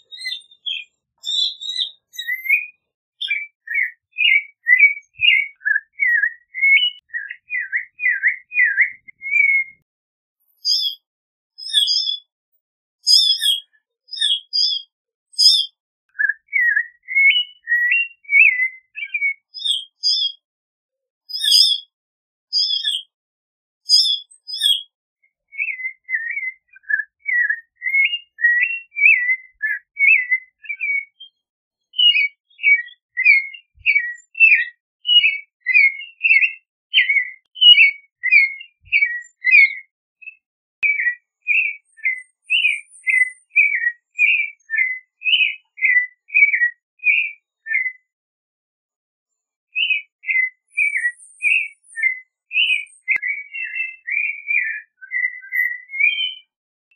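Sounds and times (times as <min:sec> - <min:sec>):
thrush singing whistled phrases: 0:00.0 - 0:09.9, 0:10.6 - 0:12.3, 0:13.0 - 0:20.4, 0:21.3 - 0:21.9, 0:23.9 - 0:48.1, 0:49.8 - 0:56.6.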